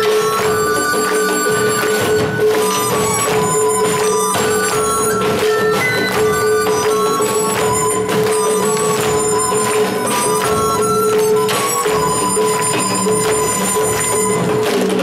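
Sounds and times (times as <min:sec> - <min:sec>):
drum strokes: 0:00.0 - 0:15.0
wind instrument melody: 0:00.0 - 0:15.0.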